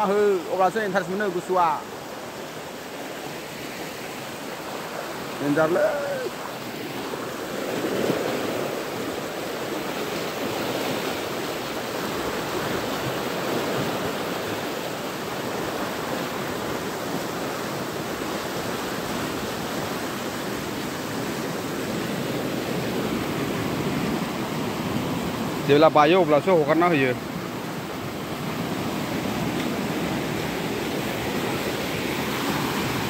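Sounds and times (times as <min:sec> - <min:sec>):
floodwater rushing through channel: 0:00.0 - 0:33.0.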